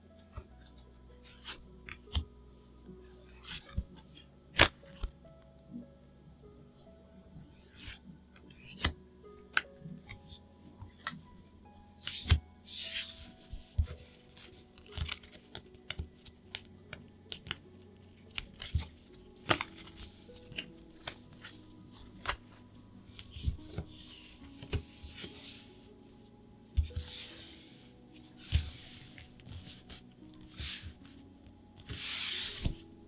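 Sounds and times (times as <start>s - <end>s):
soft background music: 0.0s - 33.0s.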